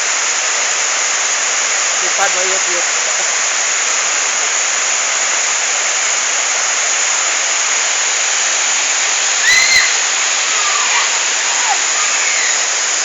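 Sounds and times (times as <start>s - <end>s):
waterfall: 0.0s - 13.0s.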